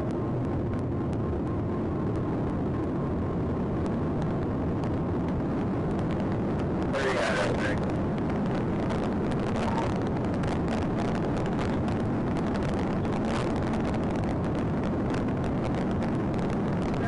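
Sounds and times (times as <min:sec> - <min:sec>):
car engine tyre and wind noise: 0:00.0 - 0:17.0.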